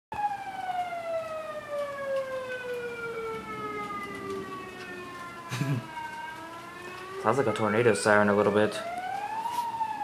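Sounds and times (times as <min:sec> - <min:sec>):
siren wailing: 0:00.1 - 0:10.0.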